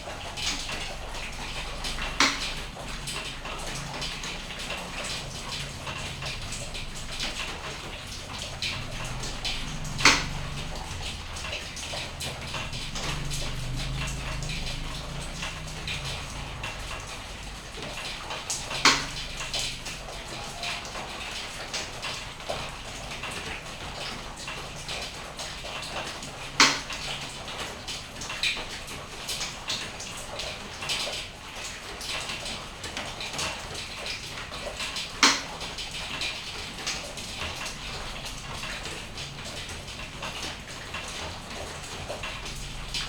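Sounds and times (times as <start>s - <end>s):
sharp drip taps: 0.0s - 43.0s
steady rain patter: 0.0s - 43.0s.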